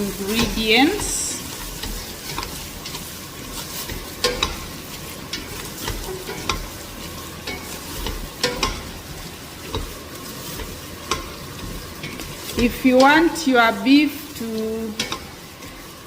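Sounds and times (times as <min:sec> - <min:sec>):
beef sizzling in oil: 0:00.0 - 0:16.0
utensil scraping a pan: 0:00.0 - 0:16.0.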